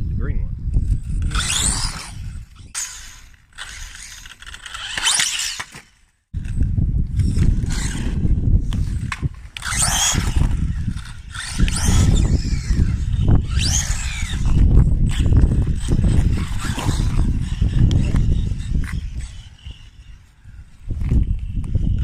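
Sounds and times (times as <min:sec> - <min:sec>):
constant low rumble: 0:00.0 - 0:22.0
electric rc car motors whining: 0:00.7 - 0:22.0.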